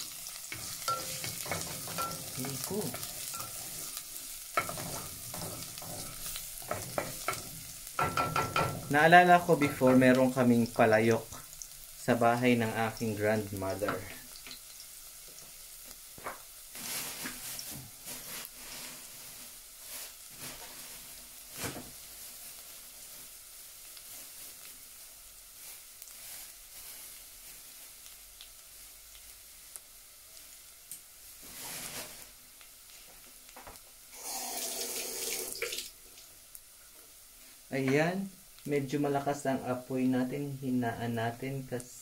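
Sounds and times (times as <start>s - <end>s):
garlic sizzling in hot oil: 0.0s - 42.0s.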